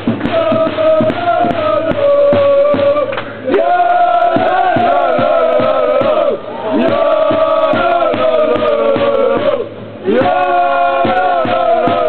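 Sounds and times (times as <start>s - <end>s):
football supporters chanting: 0.0s - 12.0s
steady beat: 0.0s - 12.0s.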